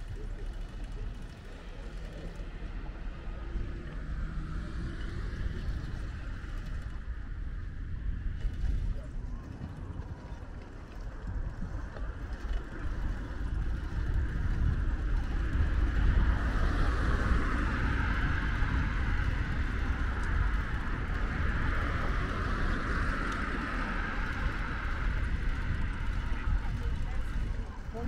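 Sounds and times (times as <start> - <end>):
car traffic passing: 0.0 - 7.8, 12.4 - 28.0
low rumble: 0.0 - 28.0.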